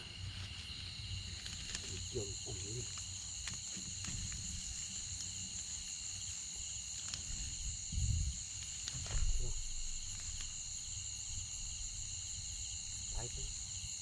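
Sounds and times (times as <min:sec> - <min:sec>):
crickets and insects trilling: 0:00.0 - 0:14.0.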